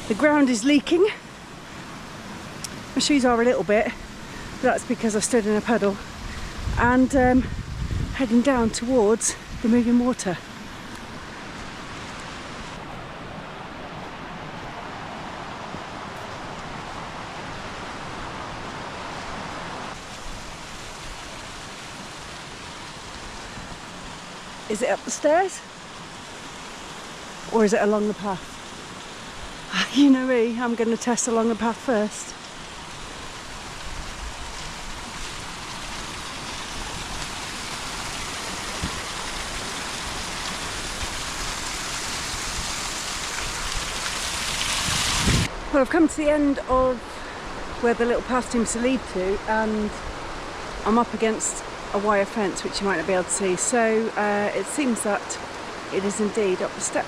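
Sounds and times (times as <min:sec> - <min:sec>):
stream rushing over waterfalls: 0:00.0 - 0:57.0.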